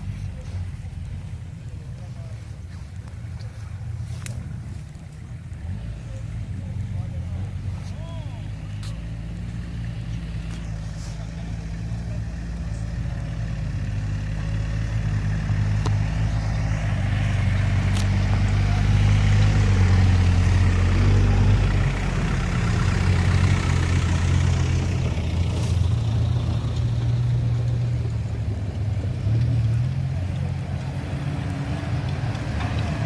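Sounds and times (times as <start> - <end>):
off-road vehicle engines running: 0.0 - 33.0.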